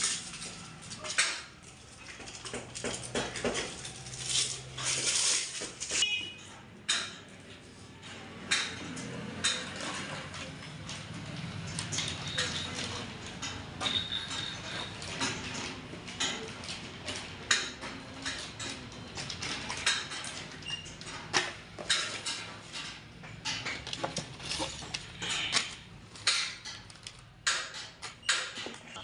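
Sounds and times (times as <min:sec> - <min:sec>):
metal parts and tools clinking: 0:00.0 - 0:29.0.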